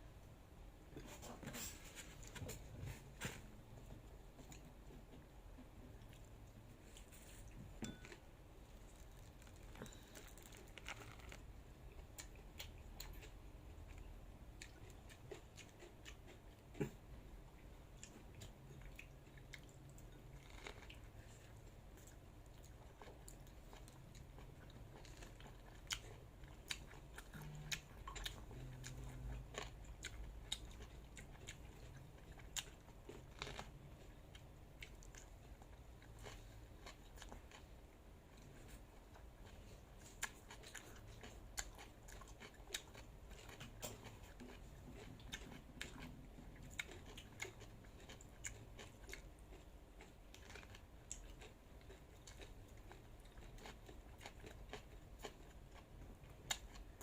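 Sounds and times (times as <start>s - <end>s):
person chewing crunchy food: 3.9s - 57.0s.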